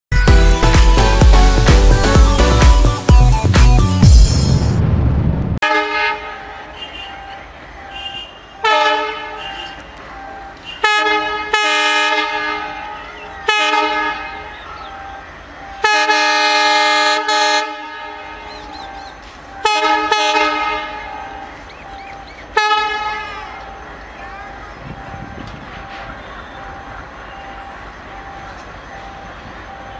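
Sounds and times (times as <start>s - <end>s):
diesel locomotive horn blasts: 5.6s - 29.9s.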